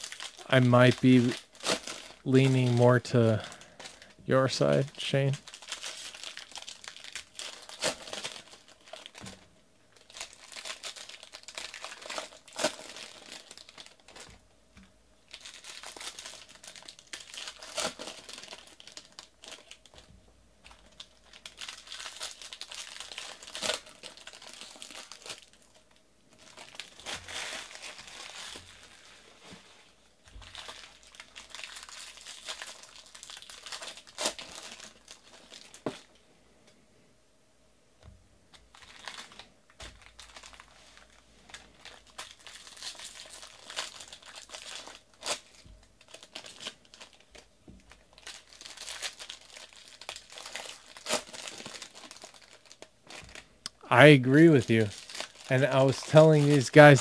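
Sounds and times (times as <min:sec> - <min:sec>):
card pack wrappers tearing: 0:00.0 - 0:09.2, 0:10.0 - 0:14.3, 0:15.3 - 0:29.1, 0:30.3 - 0:36.1, 0:38.7 - 0:53.5, 0:54.3 - 0:57.0.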